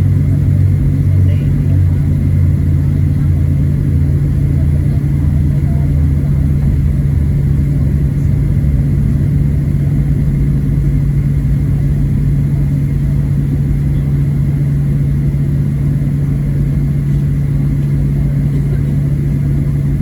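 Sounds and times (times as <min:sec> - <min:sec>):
airplane cabin drone: 0:00.0 - 0:20.0
faint high engine whine: 0:00.0 - 0:20.0.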